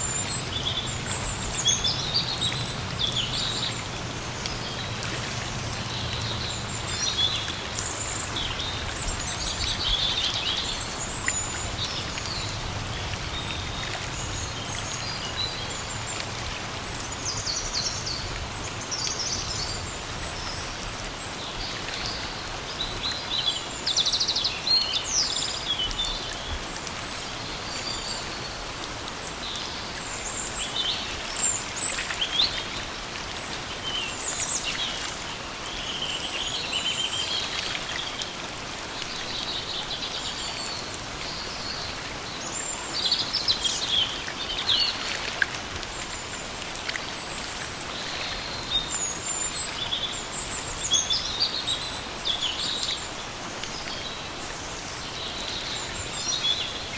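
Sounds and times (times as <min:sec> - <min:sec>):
steady rain in a forest: 0:00.0 - 0:56.9.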